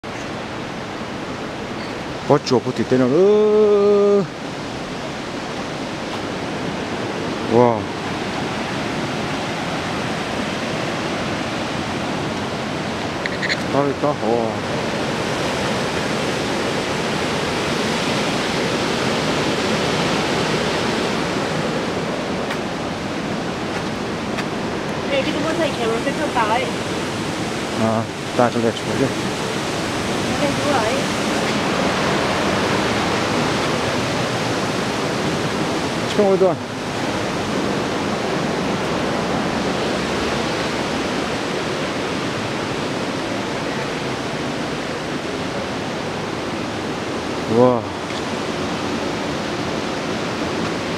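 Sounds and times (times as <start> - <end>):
whitewater rushing over boulders: 0.0 - 50.9.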